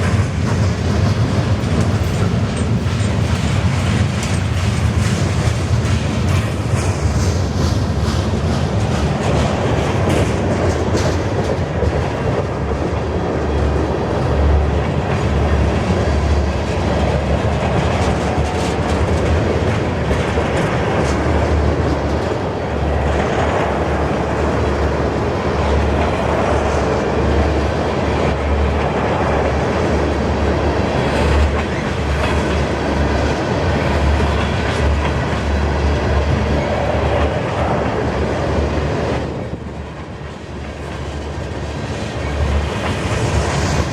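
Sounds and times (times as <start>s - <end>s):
freight train rumbling past: 0.0s - 43.9s
wheels clattering over rail joints: 0.0s - 43.9s.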